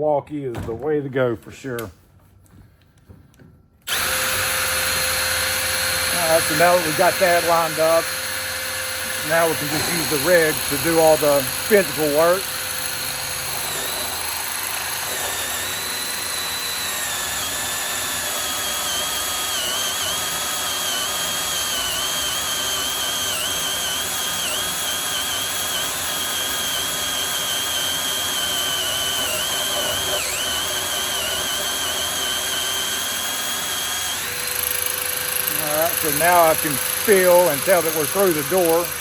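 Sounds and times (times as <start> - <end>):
drill whining through steel: 3.8 - 39.0.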